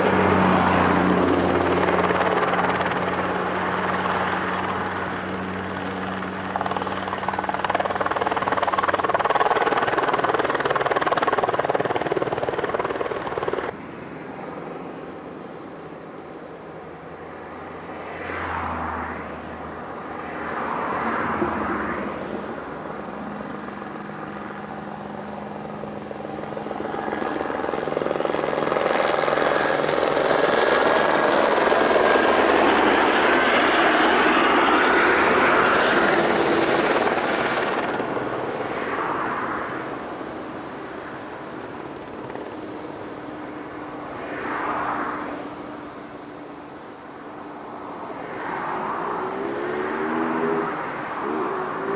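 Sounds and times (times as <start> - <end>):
helicopter passing by: 0.0 - 15.3, 16.2 - 51.9.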